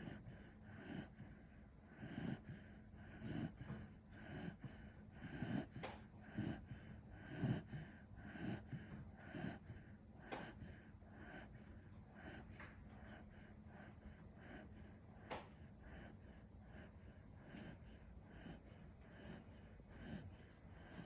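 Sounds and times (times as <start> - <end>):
dog snoring: 0.0 - 21.0.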